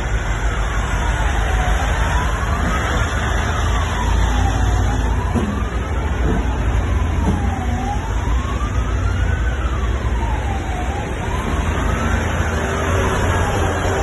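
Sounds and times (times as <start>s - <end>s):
emergency siren wailing: 0.0s - 14.0s
heavy trucks rumbling past: 0.0s - 14.0s.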